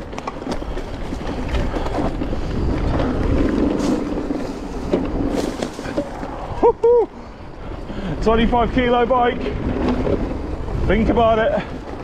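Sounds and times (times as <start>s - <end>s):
bike knocking and rattling: 0.0s - 6.9s, 8.2s - 12.0s
tyres rolling over dirt: 0.0s - 12.0s
wind rumble on microphone: 0.0s - 12.0s.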